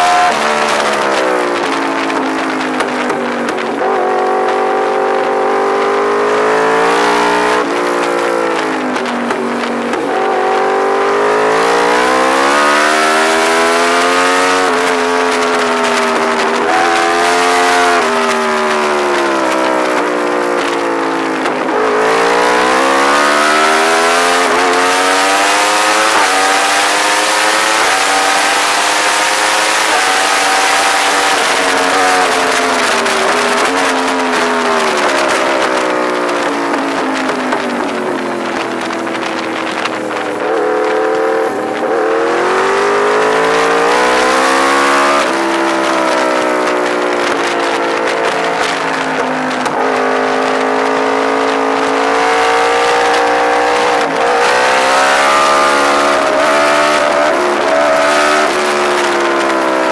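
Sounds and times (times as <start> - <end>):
motorcycle engine revving: 0.0 - 59.9
wind noise on microphone: 0.0 - 59.9.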